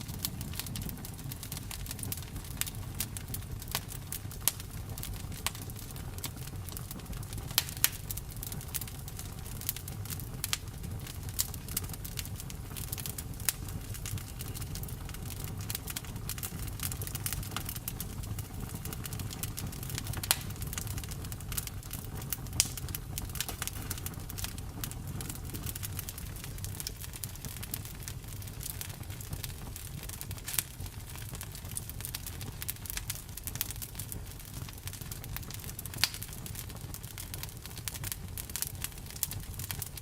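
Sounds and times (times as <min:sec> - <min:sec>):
campfire crackling and popping: 0:00.0 - 0:40.0
low steady rumble of fire: 0:00.0 - 0:40.0.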